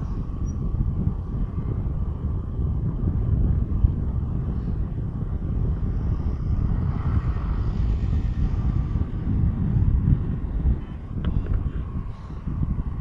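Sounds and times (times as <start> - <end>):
vehicle road and engine noise: 0.0 - 13.0
wind buffeting microphone: 0.0 - 13.0.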